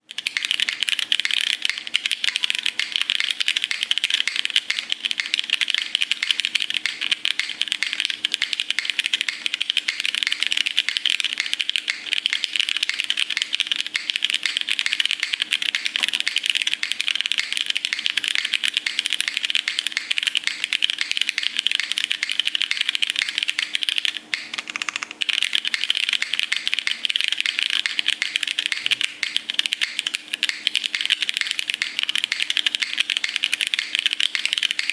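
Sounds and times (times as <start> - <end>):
keyboard key clacks: 0.1 - 34.9.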